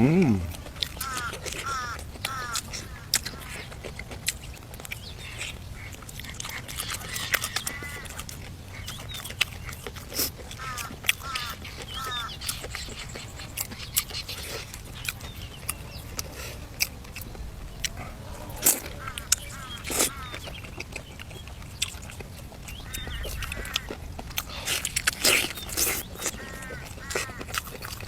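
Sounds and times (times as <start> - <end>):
birds calling: 0.0 - 28.0
chewing crunches and clicks: 0.0 - 28.0.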